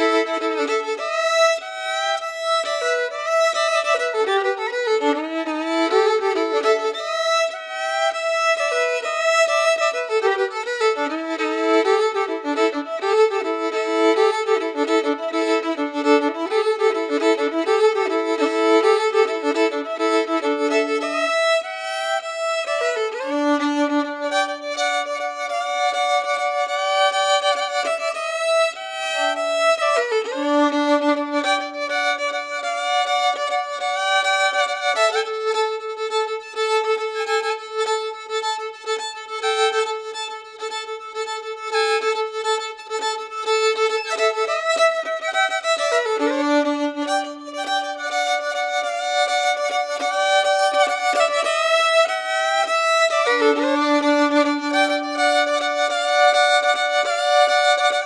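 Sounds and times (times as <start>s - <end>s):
violin music: 0.0s - 58.0s.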